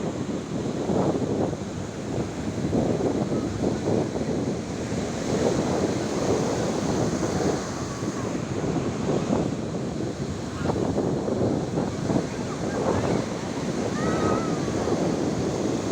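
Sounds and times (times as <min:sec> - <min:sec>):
wind buffeting microphone: 0:00.0 - 0:15.9
sea waves on shore: 0:00.1 - 0:15.9.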